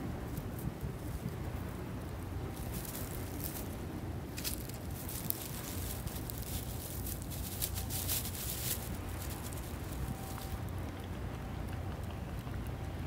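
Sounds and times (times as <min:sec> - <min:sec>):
dry grass rustling and crackling: 0:00.0 - 0:13.0
low steady rumble: 0:00.0 - 0:13.0.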